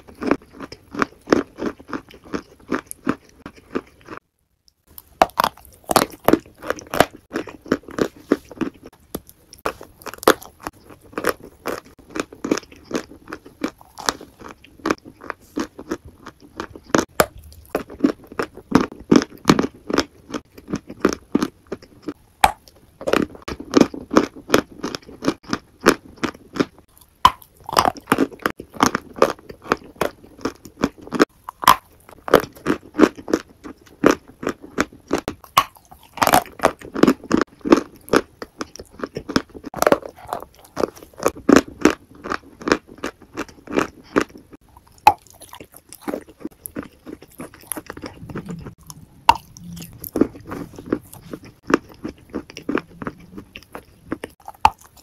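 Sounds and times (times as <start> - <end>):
person crunching food: 0.0 - 55.0.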